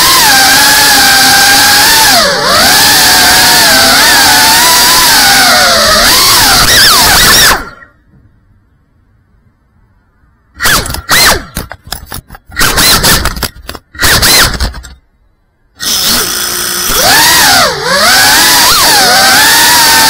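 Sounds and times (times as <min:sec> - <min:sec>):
drone motors bursting: 0:00.0 - 0:08.0, 0:10.6 - 0:15.0, 0:15.8 - 0:20.0.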